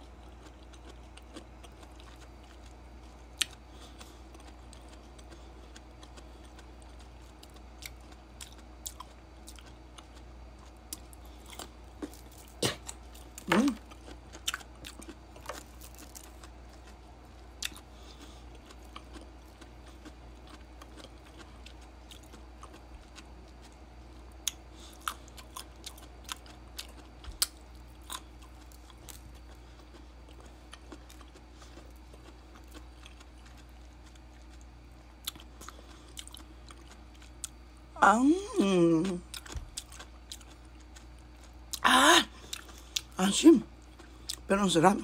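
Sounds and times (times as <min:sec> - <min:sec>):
low steady hum: 0:00.0 - 0:45.0
person biting and chewing: 0:00.2 - 0:37.6, 0:39.3 - 0:43.2.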